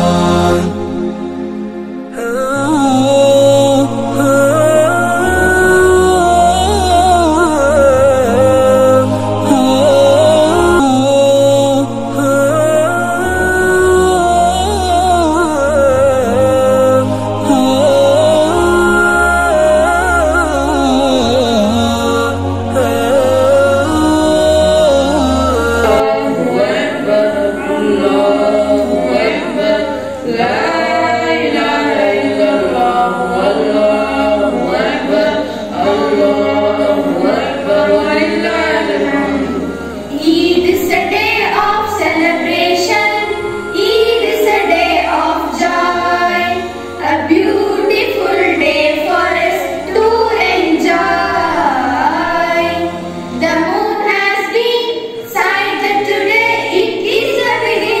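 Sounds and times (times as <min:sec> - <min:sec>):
children singing in chorus: 0:00.0 - 0:58.0
low steady accompaniment: 0:00.0 - 0:58.0.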